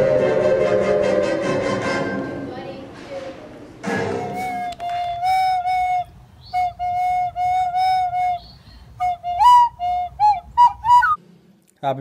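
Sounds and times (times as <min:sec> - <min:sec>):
flute melody: 0:00.0 - 0:02.4, 0:03.9 - 0:11.2.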